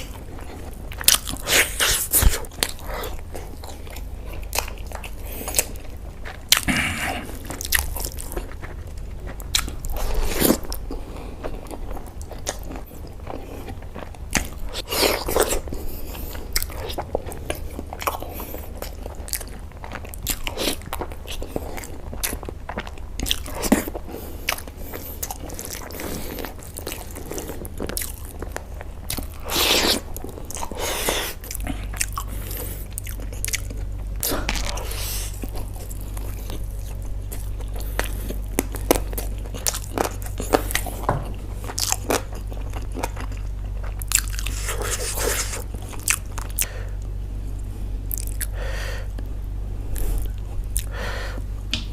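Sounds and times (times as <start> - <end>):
crunching and chewing food: 0.0 - 51.9
steady low hum: 0.0 - 51.9.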